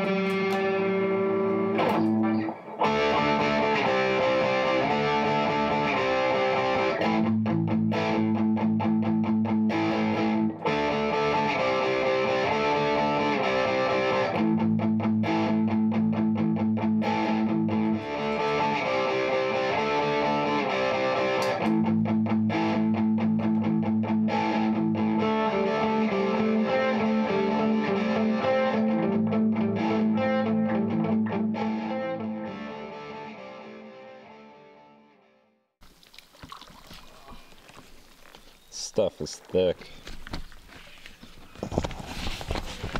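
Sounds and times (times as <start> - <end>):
guitar instrumental music: 0.0 - 35.5.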